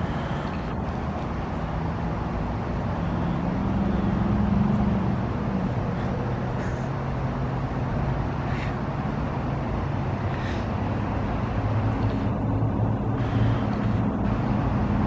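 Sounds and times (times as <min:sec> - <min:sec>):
compressor hum: 0:00.0 - 0:04.2, 0:04.9 - 0:15.0.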